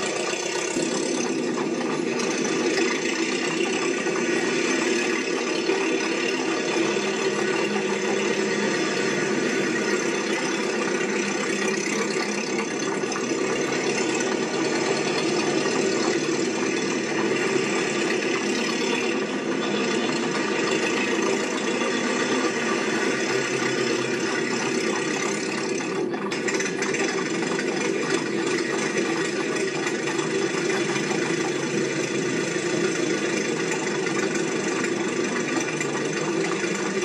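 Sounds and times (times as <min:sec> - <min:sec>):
rattling mechanical running noise: 0:00.0 - 0:37.0.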